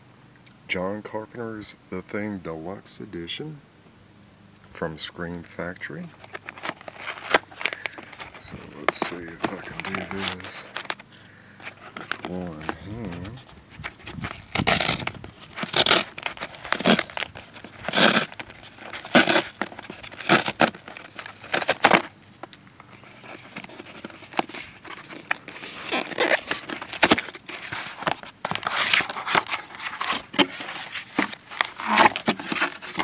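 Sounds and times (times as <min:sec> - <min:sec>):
cardboard and paper rustling: 0:05.3 - 0:33.0
cardboard box tearing: 0:06.0 - 0:33.0.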